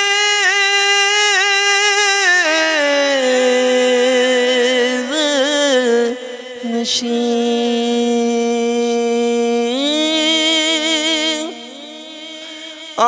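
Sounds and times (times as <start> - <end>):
man singing a long note: 0.0 - 13.0.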